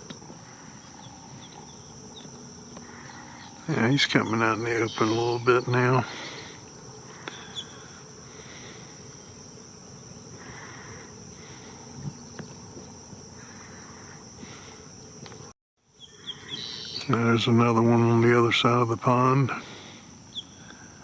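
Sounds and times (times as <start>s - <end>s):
faint outdoor background noise: 0.0s - 21.0s
insects buzzing and trilling: 0.0s - 21.0s.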